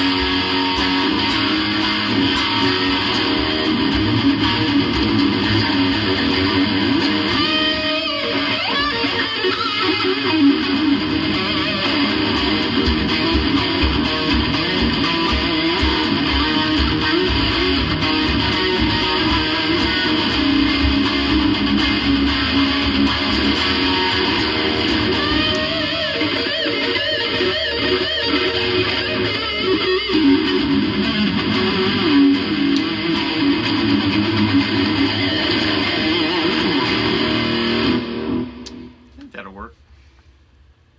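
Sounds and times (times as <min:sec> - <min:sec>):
electric guitar chords and riffs: 0:00.0 - 0:39.2.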